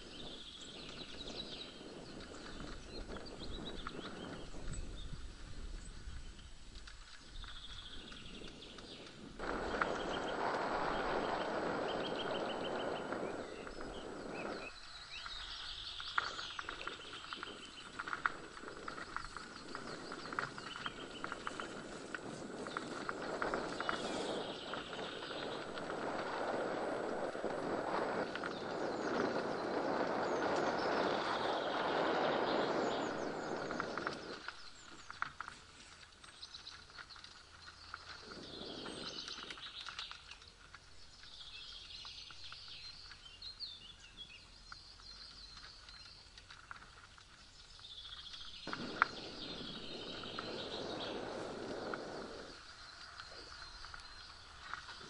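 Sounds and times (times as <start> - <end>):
birds singing: 0.0 - 35.4, 36.0 - 55.0
bike tyres rolling on dirt trail: 0.0 - 55.0.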